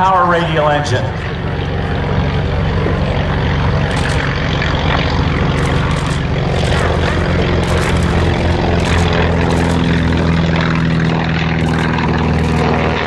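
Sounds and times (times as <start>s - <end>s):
radial piston engine drone: 1.2s - 13.0s.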